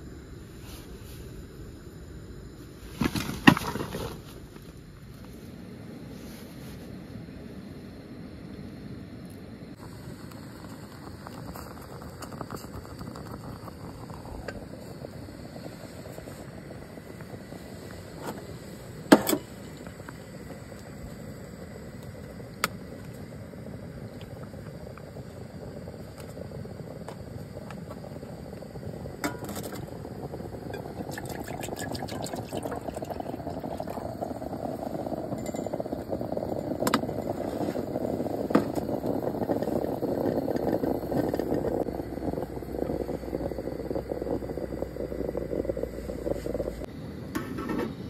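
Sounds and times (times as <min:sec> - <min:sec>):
moka pot hissing and bubbling: 0:00.0 - 0:48.0.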